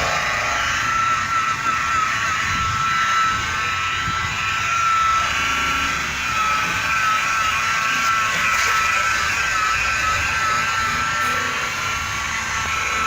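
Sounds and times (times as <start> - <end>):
polishing machine whining: 0.0 - 13.0.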